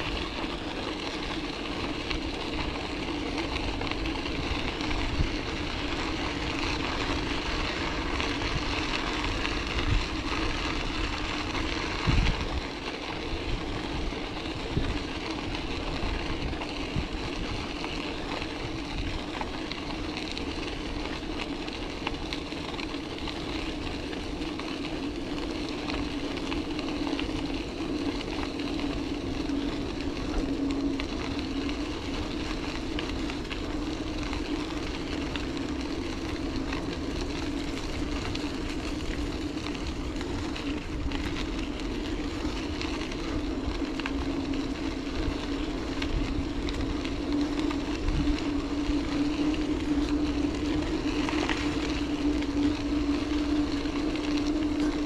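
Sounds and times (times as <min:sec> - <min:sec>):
bicycle tyres rolling: 0:00.0 - 0:55.0
low hum: 0:00.0 - 0:55.0.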